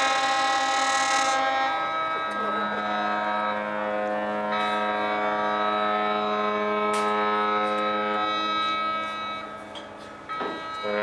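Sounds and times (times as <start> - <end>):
higher-pitched horns: 0.0 - 11.0
ships' horns blasting: 0.0 - 11.0.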